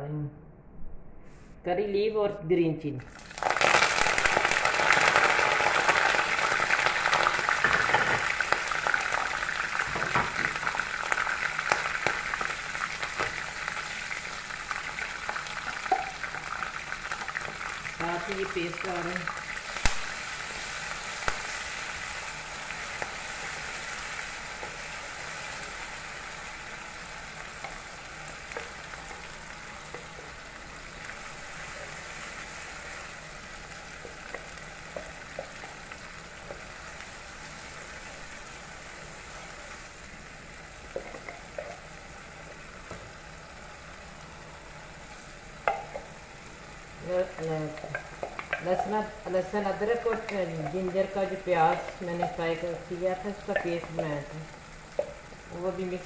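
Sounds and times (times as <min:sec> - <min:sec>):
paste sizzling in hot oil: 0:03.1 - 0:56.0.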